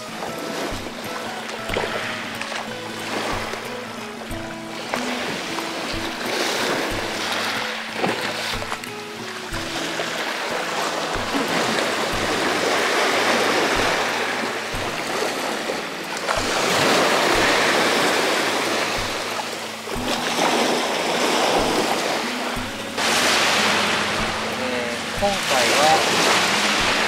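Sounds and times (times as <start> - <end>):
waves washing over pebbles: 0.0 - 27.0.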